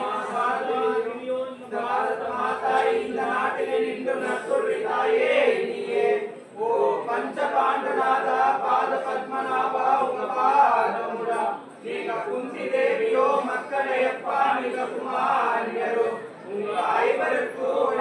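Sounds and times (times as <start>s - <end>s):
voices chanting together: 0.0s - 18.0s.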